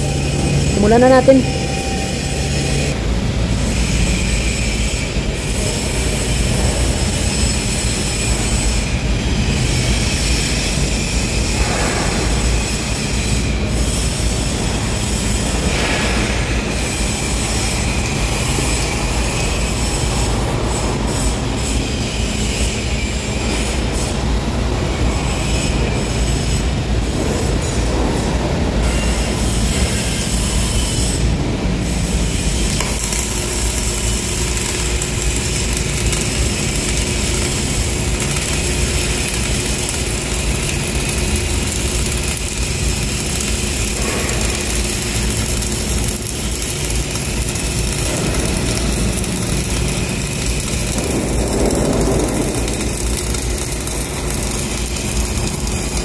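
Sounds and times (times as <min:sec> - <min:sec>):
welding arc sizzling: 0:00.0 - 0:56.0.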